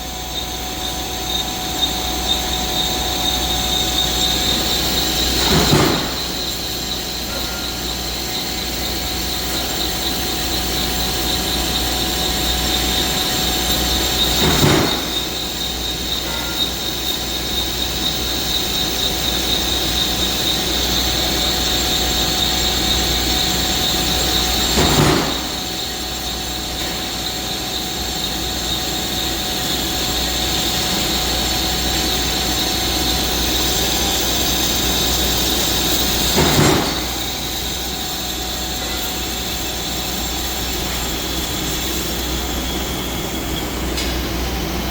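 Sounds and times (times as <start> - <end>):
metal lathe cutting steel: 0.0 - 44.7.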